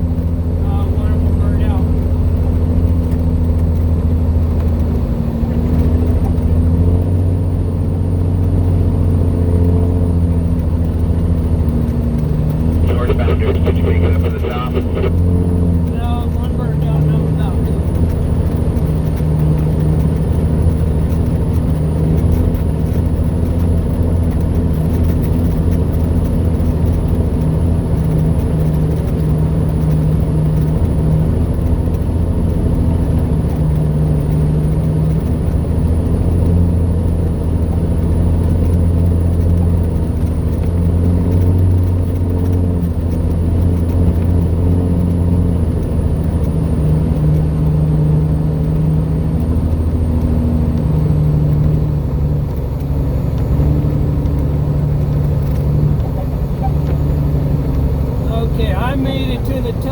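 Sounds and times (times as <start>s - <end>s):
truck engine pulling under load: 1.2s - 59.9s.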